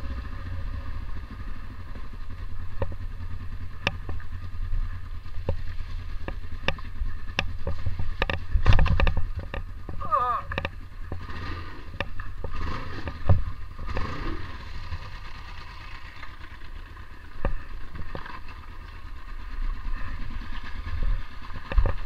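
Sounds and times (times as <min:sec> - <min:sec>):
motorcycle engine running at low revs: 0:00.0 - 0:22.0.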